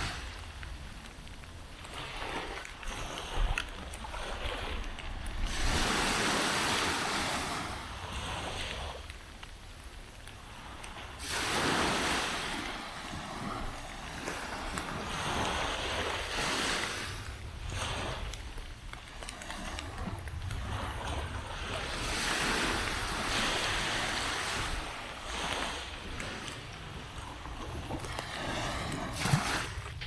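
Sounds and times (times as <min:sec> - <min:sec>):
low wind rumble on microphone: 0:00.0 - 0:30.0
small waves breaking on beach: 0:00.0 - 0:30.0.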